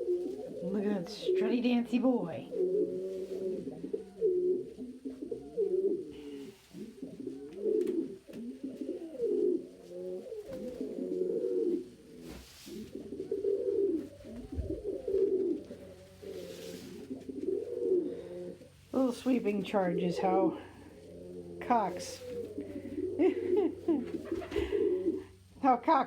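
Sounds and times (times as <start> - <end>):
pigeons cooing: 0.0 - 25.6.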